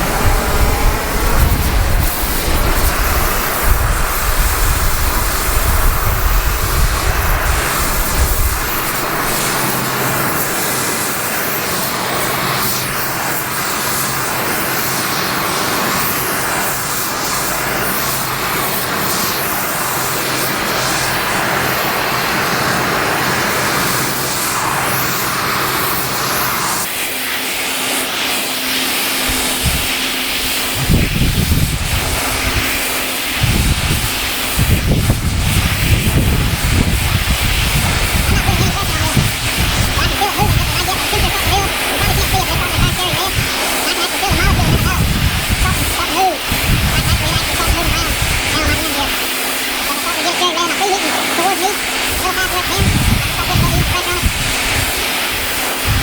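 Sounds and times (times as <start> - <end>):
gas burner flame hissing: 0.0 - 56.0.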